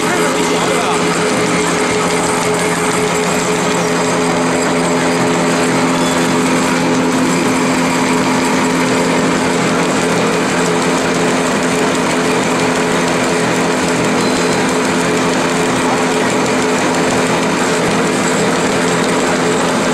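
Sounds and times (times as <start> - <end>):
machine humming with hiss: 0.0 - 19.9.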